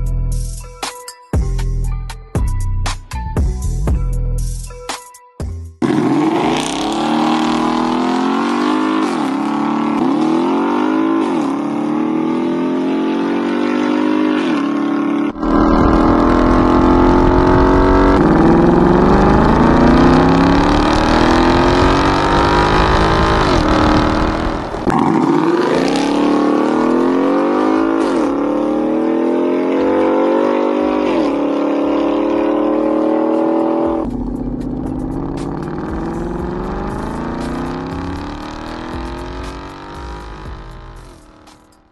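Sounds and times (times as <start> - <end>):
car engine revving: 5.8 - 41.7.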